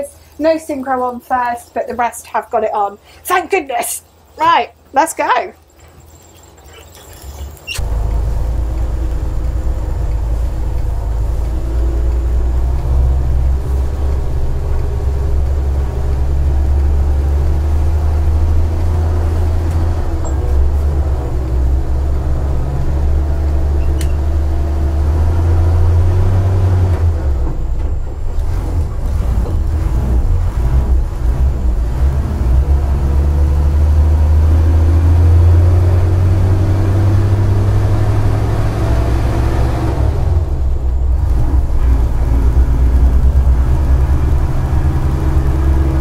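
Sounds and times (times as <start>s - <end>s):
truck engine pulling away: 5.7s - 46.0s.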